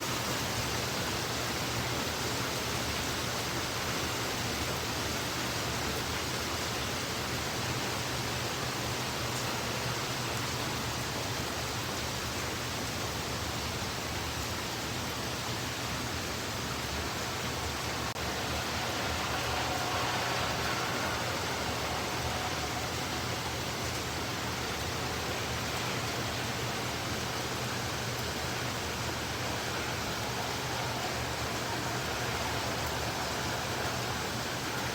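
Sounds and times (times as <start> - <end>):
heavy rain hissing: 0.0 - 34.9.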